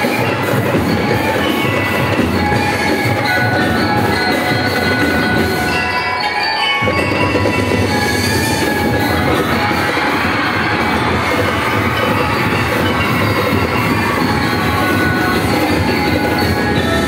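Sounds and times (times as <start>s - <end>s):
bell lyres playing melody: 0.0s - 17.0s.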